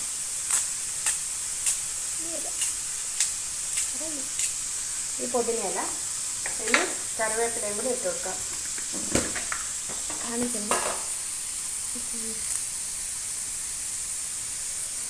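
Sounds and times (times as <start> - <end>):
shallots sizzling in hot oil: 0.0 - 15.0.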